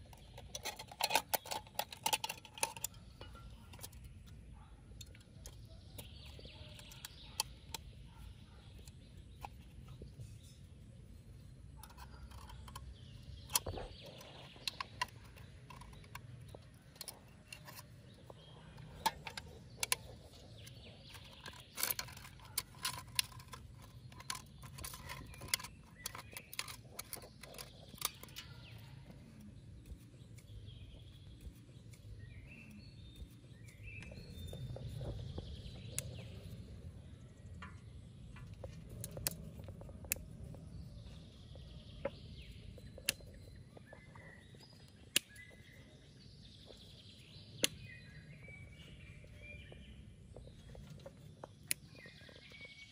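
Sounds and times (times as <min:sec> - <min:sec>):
faint bird chirps: 0:00.1 - 0:52.9.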